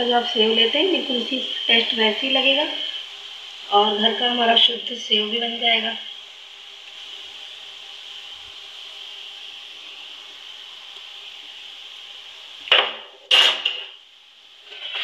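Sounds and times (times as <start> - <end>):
strands frying in hot oil: 0.0 - 15.0.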